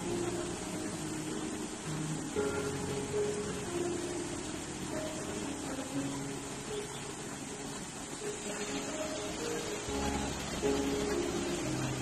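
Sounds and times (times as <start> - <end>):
soft slow background music: 0.0 - 12.0
stream running over rocks: 0.0 - 12.0.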